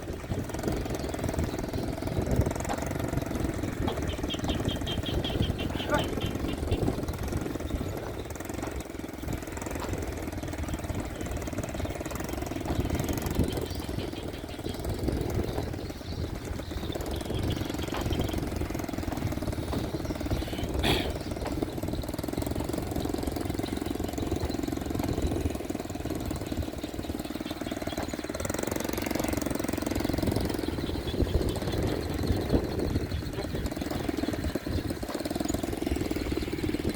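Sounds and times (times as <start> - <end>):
motorbike engine running: 0.0 - 36.9.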